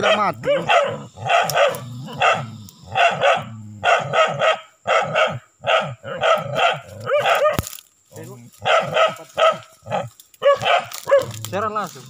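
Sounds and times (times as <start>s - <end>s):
dog yelping: 0.0s - 7.6s, 8.6s - 11.4s
dog barking: 0.0s - 7.7s, 8.6s - 11.4s.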